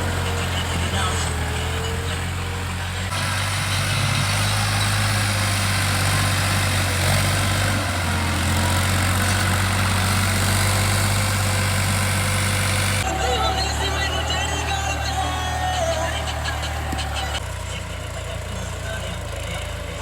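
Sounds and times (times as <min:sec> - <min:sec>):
tractor diesel engine droning: 0:00.0 - 0:20.0.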